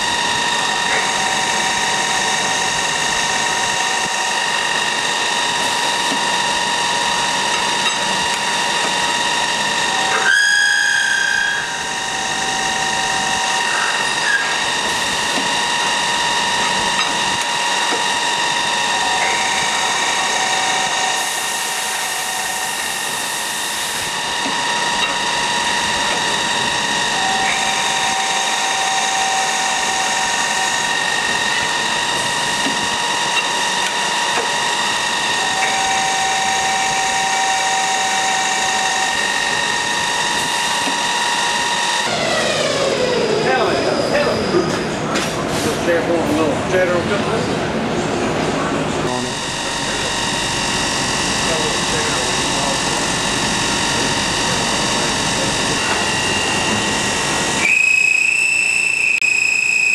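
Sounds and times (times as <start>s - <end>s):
lower machine tone: 0.0s - 59.9s
machine whining: 0.0s - 59.9s.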